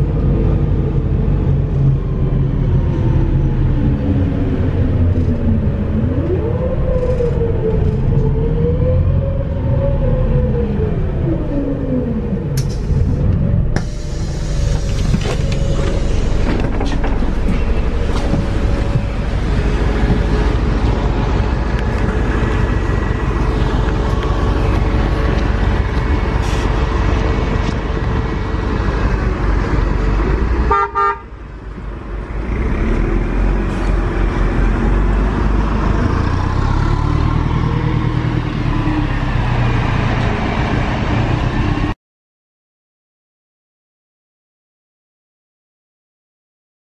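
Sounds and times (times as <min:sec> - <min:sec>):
bus engine and road rumble: 0:00.0 - 0:42.0.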